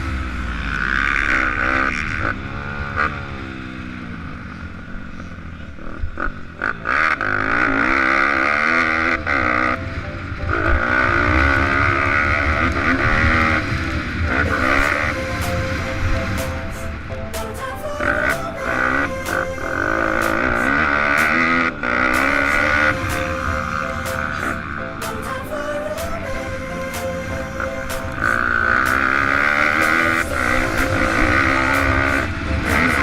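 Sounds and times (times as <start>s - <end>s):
pit bike engines revving: 0.0s - 33.0s.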